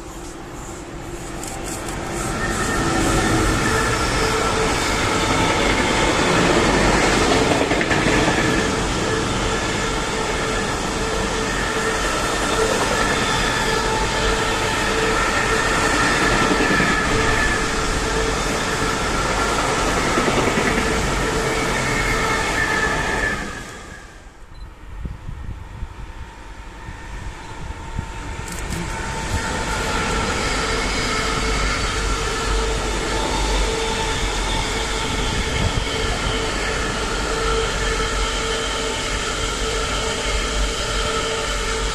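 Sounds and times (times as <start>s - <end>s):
train wheels rumbling on rails: 0.0s - 24.0s, 25.6s - 41.9s.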